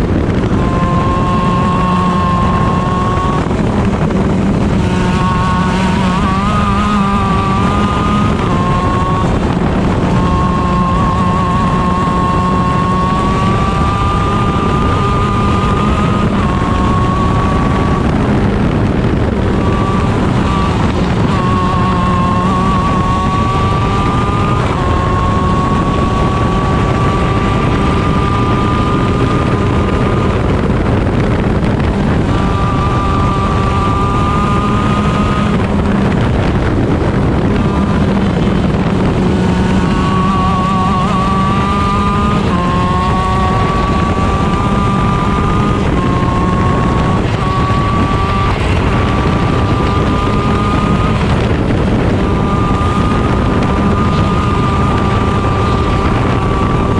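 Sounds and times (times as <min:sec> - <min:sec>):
kart engine at racing speed: 0:00.0 - 0:56.9
wind noise on microphone: 0:00.0 - 0:56.9.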